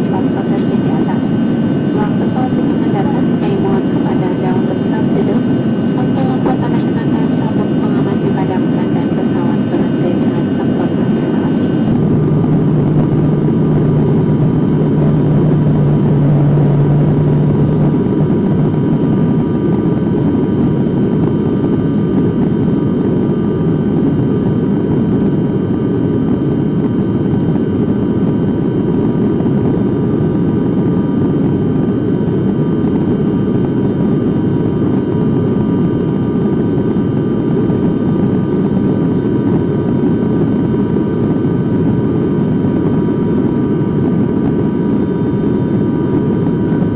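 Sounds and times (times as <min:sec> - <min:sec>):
steady whining tones: 0:00.0 - 0:42.3
airliner cabin drone: 0:00.0 - 0:46.9
strong low hum: 0:00.0 - 0:46.9.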